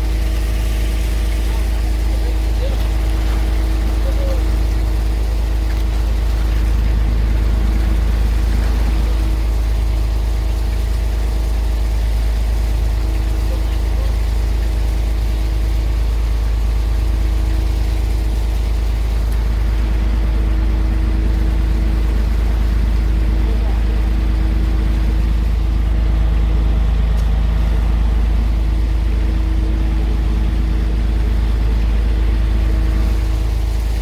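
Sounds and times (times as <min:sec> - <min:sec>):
boat engine idling: 0:00.0 - 0:34.0.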